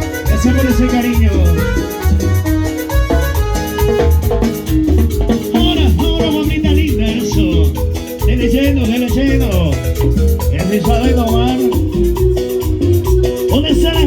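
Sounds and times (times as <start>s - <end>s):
latin dance music: 0.0s - 14.0s.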